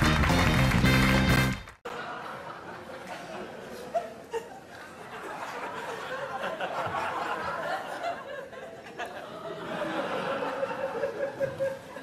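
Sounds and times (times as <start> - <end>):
audience laughing: 1.9 - 12.0.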